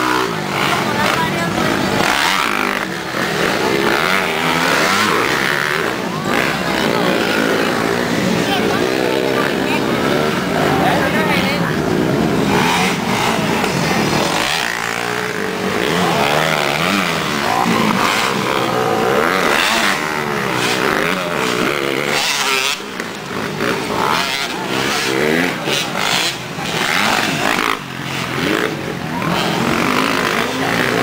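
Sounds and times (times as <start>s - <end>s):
motorbike engines revving: 0.0s - 31.0s.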